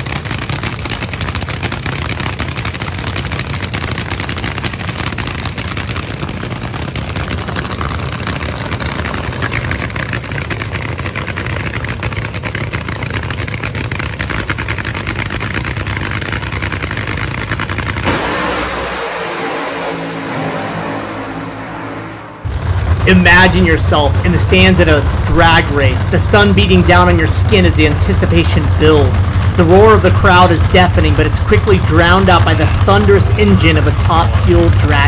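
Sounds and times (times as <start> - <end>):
dragster engine crackling idle: 0.0 - 19.9, 22.5 - 35.0.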